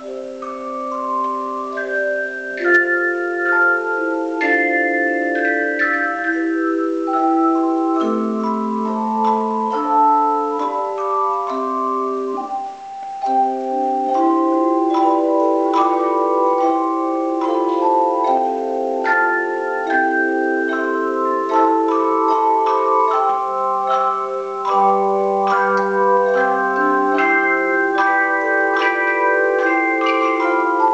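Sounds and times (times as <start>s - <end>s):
tone chimes playing a hymn: 0.0s - 30.9s.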